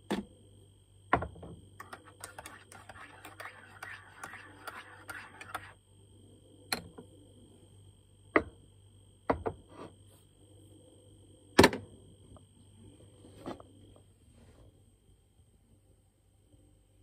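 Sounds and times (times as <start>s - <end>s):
faint hum with high whine: 0.0s - 17.0s.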